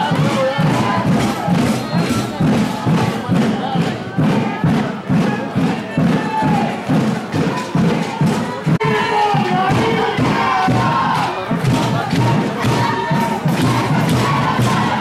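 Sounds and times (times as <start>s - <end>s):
crowd shouting and chanting: 0.0s - 15.0s
steady drum beat: 0.0s - 15.0s.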